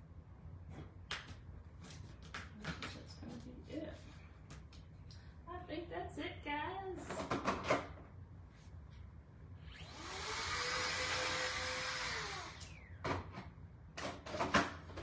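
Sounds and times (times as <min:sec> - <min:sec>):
heat tool fan whirring: 0:00.0 - 0:15.0.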